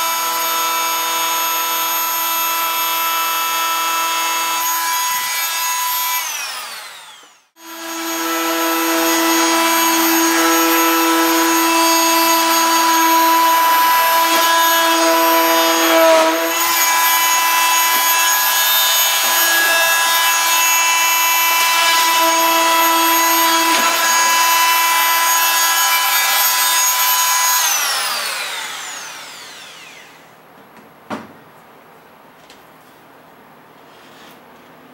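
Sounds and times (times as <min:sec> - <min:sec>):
oscillating multi-tool whining: 0:00.0 - 0:30.3.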